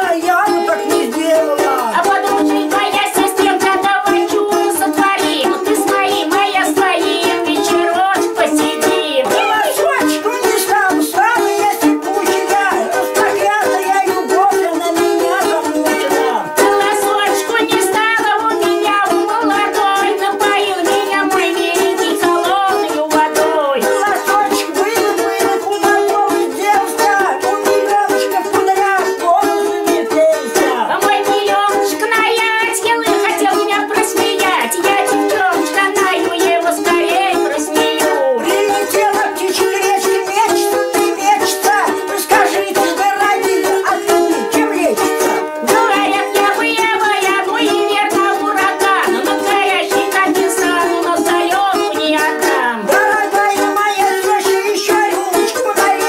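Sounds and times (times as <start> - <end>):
balalaikas strumming: 0.0 - 56.0.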